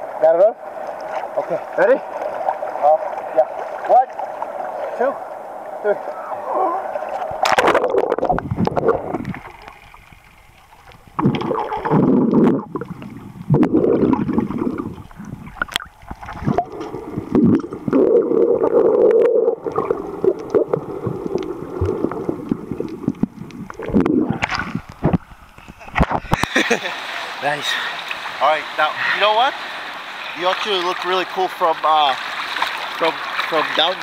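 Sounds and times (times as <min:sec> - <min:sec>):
muffled water sloshing underwater: 0:00.0 - 0:34.0.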